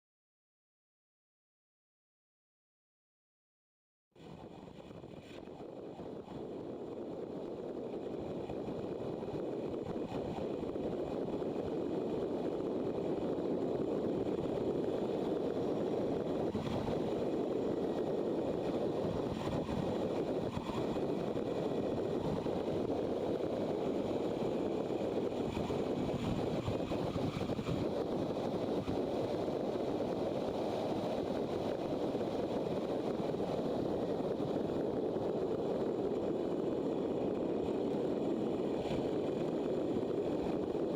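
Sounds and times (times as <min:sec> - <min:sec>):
wind rushing on microphone: 0:04.2 - 0:40.9.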